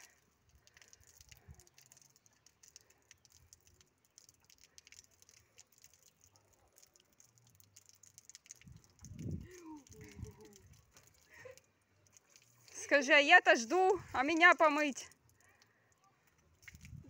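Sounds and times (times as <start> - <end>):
water from hose pattering: 0.0 - 17.0.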